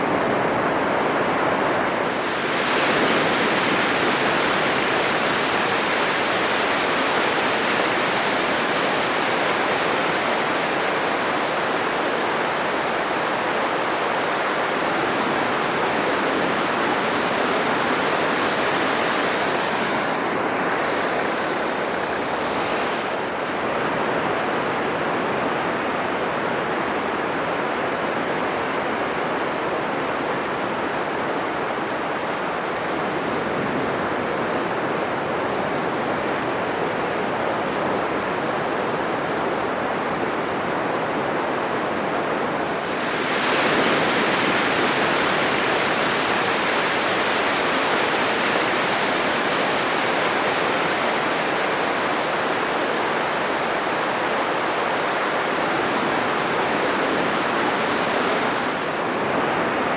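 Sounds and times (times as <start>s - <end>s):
surf breaking on beach: 0.0s - 25.8s, 31.8s - 59.9s.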